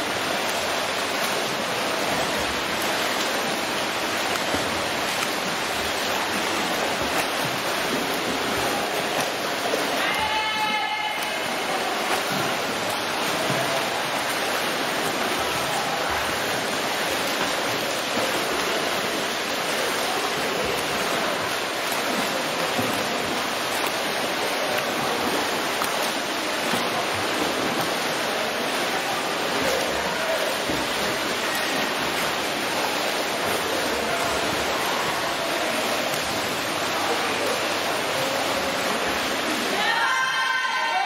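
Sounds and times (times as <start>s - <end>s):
swimmers splashing in pool: 0.0s - 41.0s.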